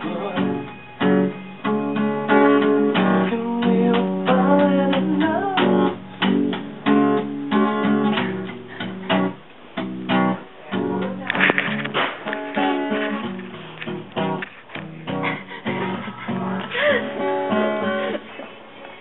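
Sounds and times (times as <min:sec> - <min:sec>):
acoustic guitars strumming chords: 0:00.0 - 0:19.0.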